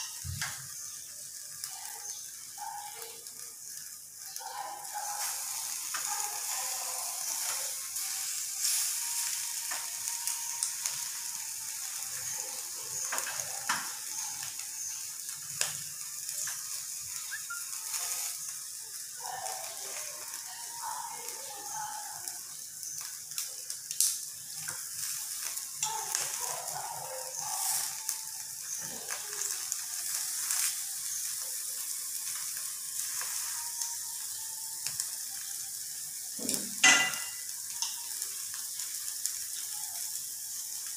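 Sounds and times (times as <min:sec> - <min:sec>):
chicken sizzling on a grill: 0:00.0 - 0:40.9.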